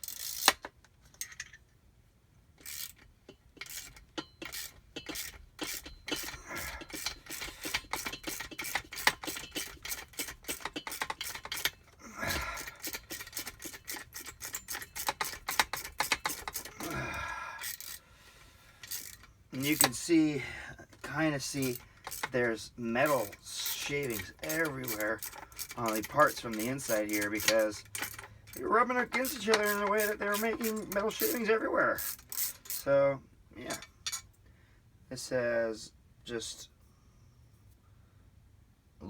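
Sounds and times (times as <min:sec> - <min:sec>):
metal tools clicking and scraping: 0:00.0 - 0:01.7, 0:02.6 - 0:18.0, 0:18.8 - 0:20.2, 0:20.9 - 0:33.0, 0:33.6 - 0:34.4.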